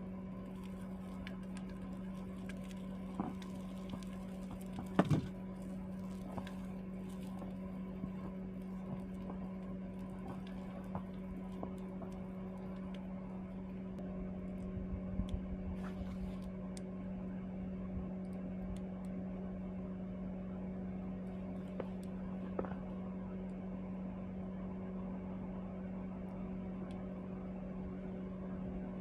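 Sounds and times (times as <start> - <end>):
small motor humming: 0.0 - 24.4.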